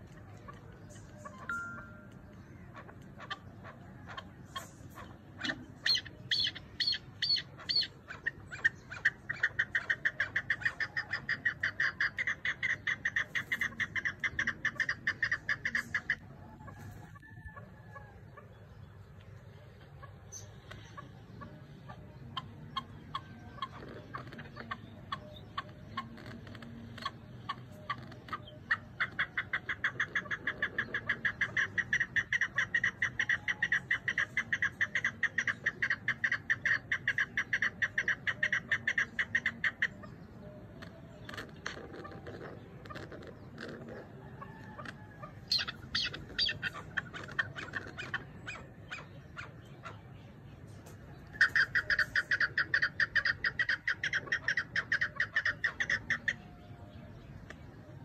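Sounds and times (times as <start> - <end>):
partridge chuck calls: 0.0 - 58.0.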